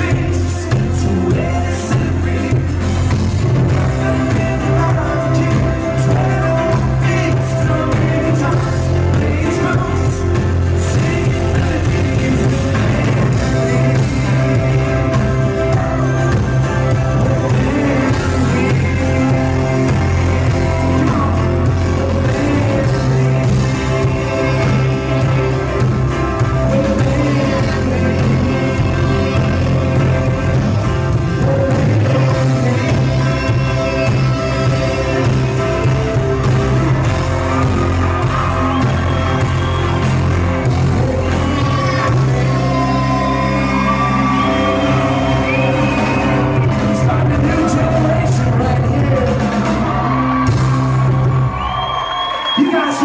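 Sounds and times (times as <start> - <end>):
person singing: 0.0 - 51.2
live band playing: 0.0 - 53.0.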